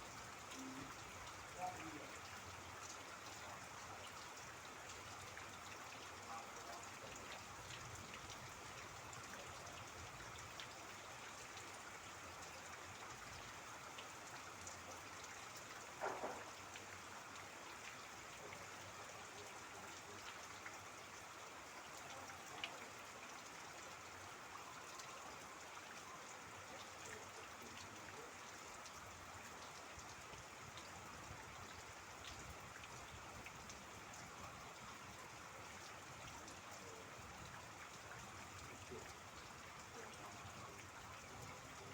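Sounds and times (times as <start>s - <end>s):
faint steady rain: 0.0s - 41.9s
trickling water: 0.0s - 41.9s.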